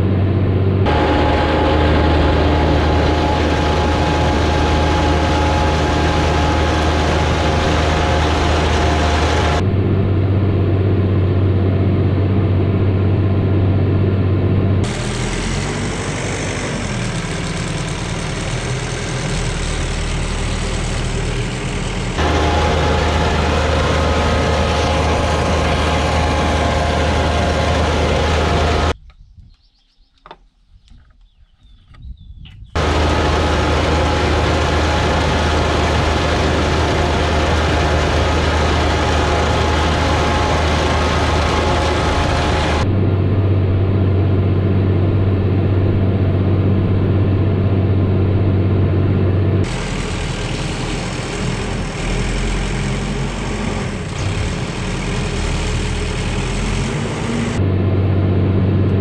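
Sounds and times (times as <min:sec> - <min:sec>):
tractor engine running: 0:00.0 - 0:29.0, 0:32.8 - 0:59.0.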